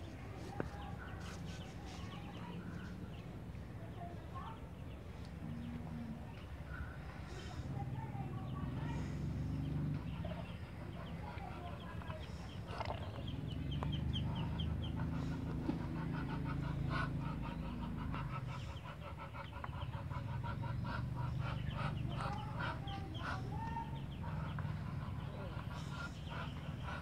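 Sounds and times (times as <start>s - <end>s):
chickens clucking: 4.7s - 27.0s.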